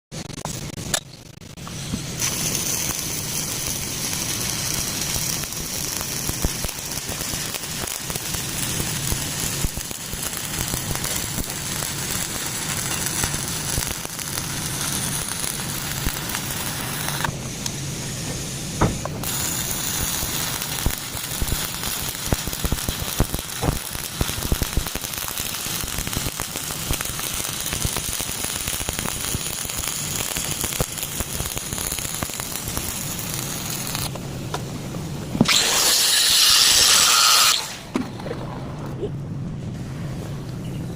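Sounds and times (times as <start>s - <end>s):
welding arc crackling sizzle: 0.1s - 37.9s.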